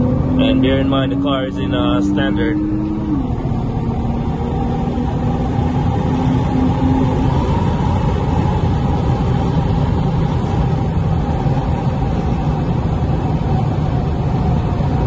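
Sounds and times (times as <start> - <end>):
car engine low drone: 0.0 - 15.0
road noise: 0.0 - 15.0.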